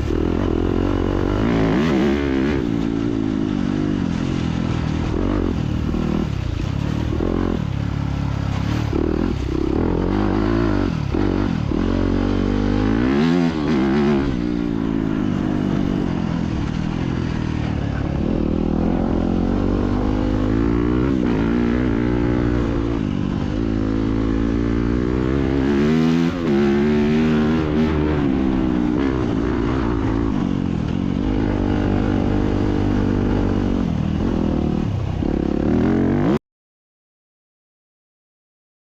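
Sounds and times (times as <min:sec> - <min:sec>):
dirt bike engine revving: 0:00.0 - 0:36.4.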